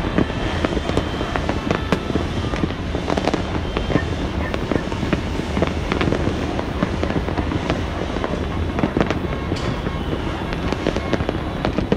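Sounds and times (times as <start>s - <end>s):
fireworks popping and banging: 0.0s - 11.9s.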